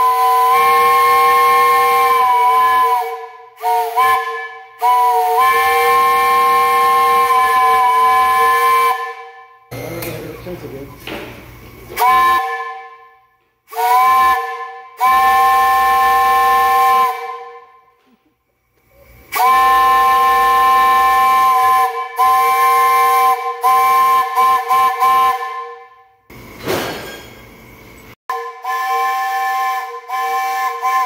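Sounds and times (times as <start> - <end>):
steam whistle blasts: 0.0 - 9.9, 11.8 - 18.1, 19.0 - 26.3, 28.3 - 31.0.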